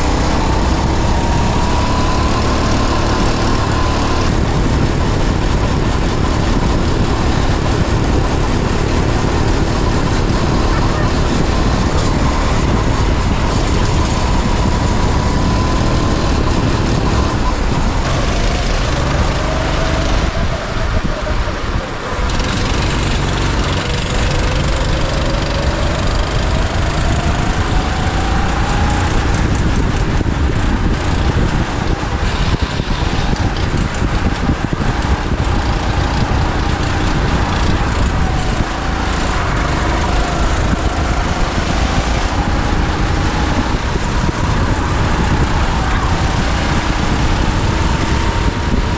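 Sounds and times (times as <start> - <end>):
go-kart engine: 0.0 - 48.9
wind buffeting microphone: 0.0 - 48.9.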